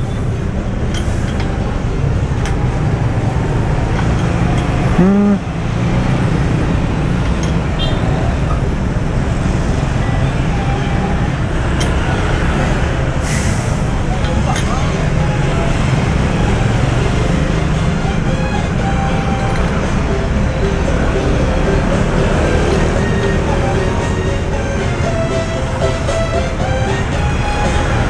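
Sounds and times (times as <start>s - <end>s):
passing vehicles rumbling: 0.0s - 28.0s.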